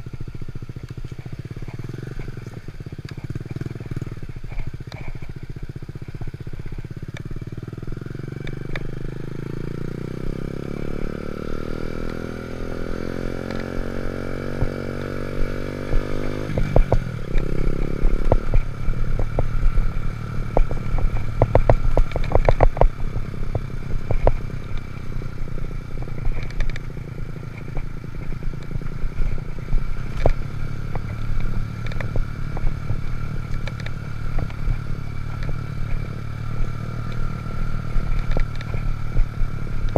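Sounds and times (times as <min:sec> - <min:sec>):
small motorbike engine running: 0:00.0 - 0:39.9.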